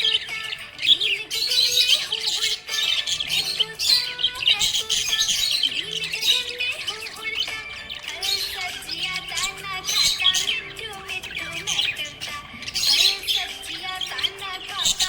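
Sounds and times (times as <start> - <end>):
background music with held tones: 0.0 - 15.0
budgerigars chirping and warbling: 0.0 - 15.0.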